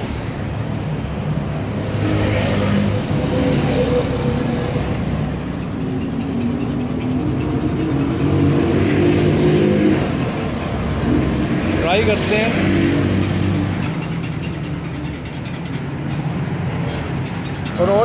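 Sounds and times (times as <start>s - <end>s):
vehicle engines passing: 0.0s - 18.0s.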